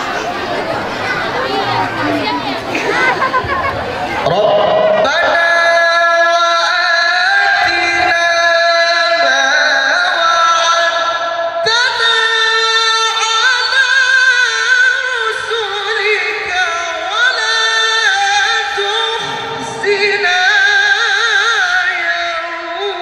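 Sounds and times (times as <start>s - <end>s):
man chanting into a microphone: 4.3s - 23.0s.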